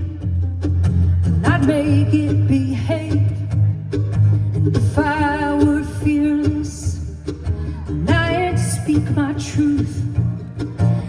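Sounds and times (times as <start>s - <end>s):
woman singing: 0.0s - 0.4s, 1.2s - 3.8s, 4.6s - 11.0s
acoustic guitar: 0.0s - 11.0s
mandolin: 0.0s - 11.0s.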